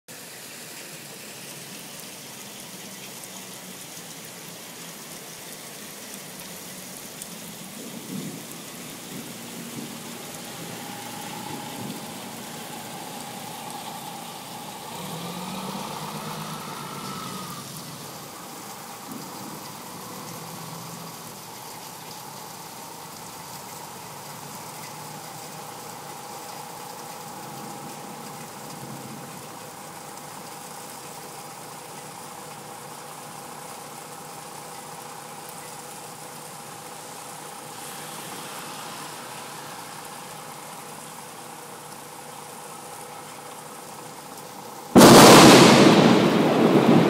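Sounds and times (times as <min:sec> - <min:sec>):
steady rain falling: 0:00.1 - 0:47.0.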